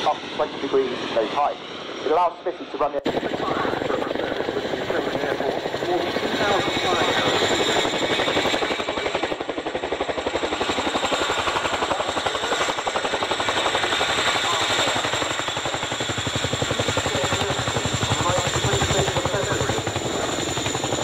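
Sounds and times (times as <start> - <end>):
turbine whine: 0.0 - 21.0
helicopter rotor blade slap: 3.1 - 21.0.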